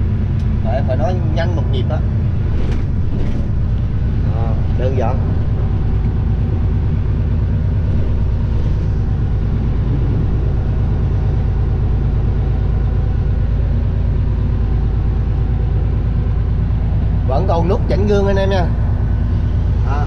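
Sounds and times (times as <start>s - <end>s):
diesel truck engine hum: 0.0s - 20.0s.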